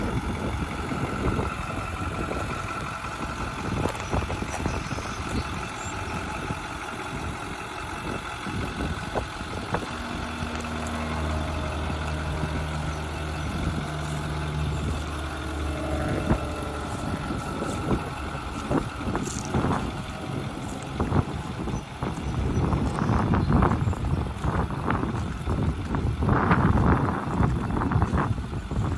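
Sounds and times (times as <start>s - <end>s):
truck engine humming: 0.0s - 28.9s.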